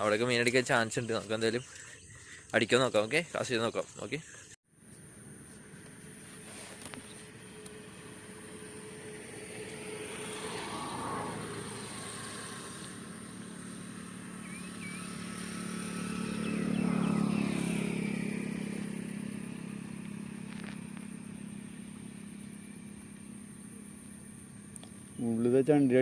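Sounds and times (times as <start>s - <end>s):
vehicles passing on a road: 4.4s - 26.0s.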